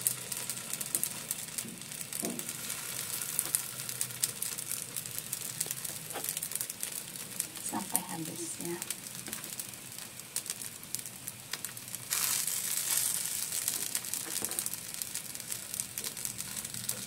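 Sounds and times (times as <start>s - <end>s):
dough patties sizzling on grill pan: 0.0s - 17.0s.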